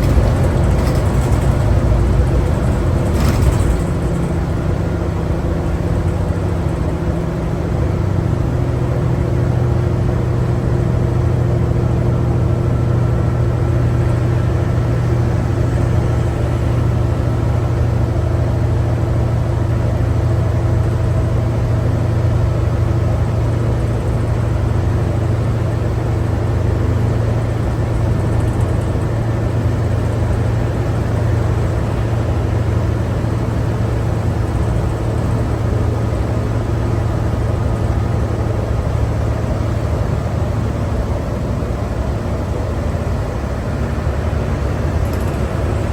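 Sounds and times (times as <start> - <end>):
bus diesel engine drone: 0.0 - 45.9
road noise: 0.0 - 45.9.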